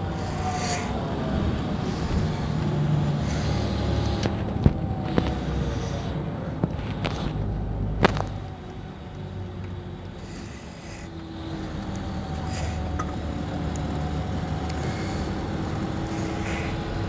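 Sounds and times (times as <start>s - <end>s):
diesel bus engine idling: 0.0s - 17.0s
thin steady whine: 0.0s - 17.0s.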